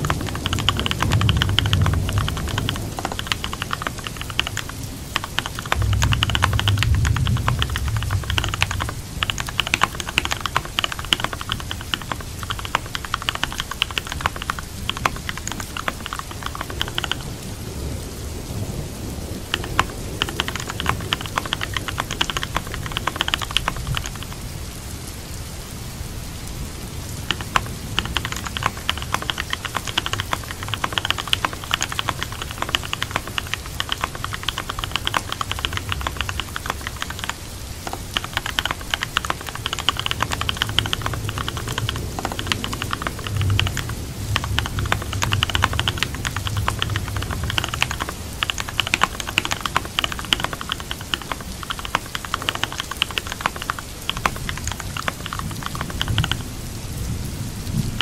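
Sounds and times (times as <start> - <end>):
fast typing on keyboard: 0.0 - 17.7, 19.3 - 24.7, 27.1 - 56.6, 57.8 - 58.0
steady rain: 0.0 - 58.0.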